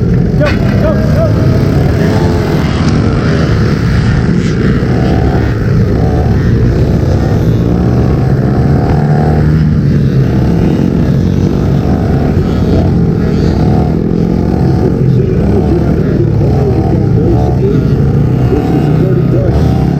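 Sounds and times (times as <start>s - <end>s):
dirt bike engines racing: 0.0s - 19.9s.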